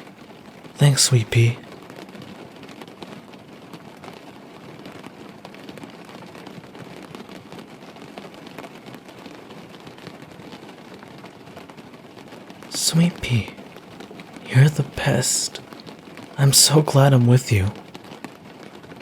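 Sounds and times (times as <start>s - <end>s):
steady rain pattering: 0.0s - 19.0s.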